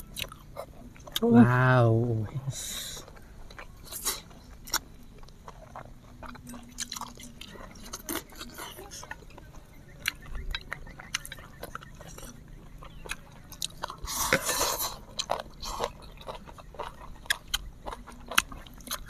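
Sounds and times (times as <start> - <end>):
chewing and biting: 0.0 - 1.4, 2.1 - 19.0.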